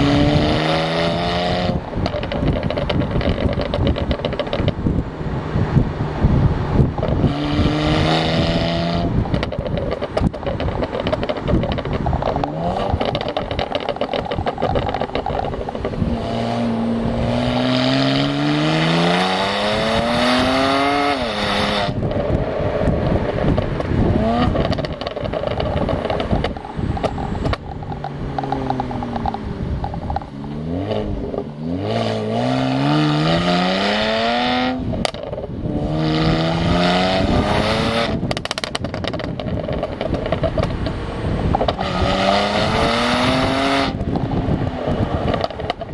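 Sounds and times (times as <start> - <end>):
car engine revving: 0.0 - 45.9
exhaust pops and crackles: 0.0 - 45.9.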